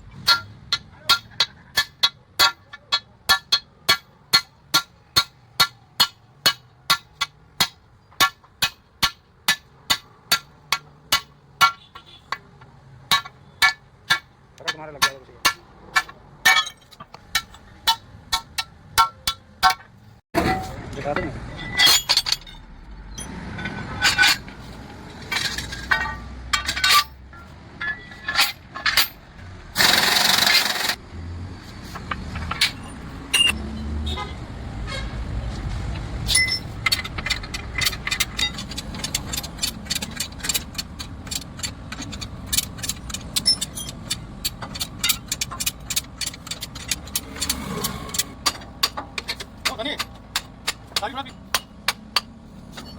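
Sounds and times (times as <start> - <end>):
metal tools clinking: 0.1 - 6.2, 10.4 - 31.0, 31.9 - 33.9, 36.1 - 52.9.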